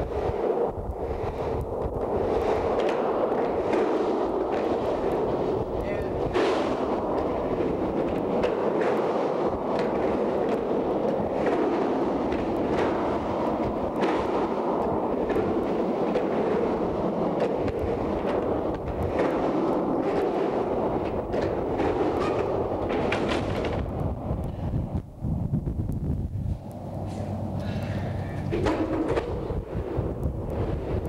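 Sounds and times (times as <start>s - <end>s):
skateboard clacks: 0.0s - 25.0s, 27.4s - 31.0s
skateboard wheels rumbling: 0.0s - 31.0s.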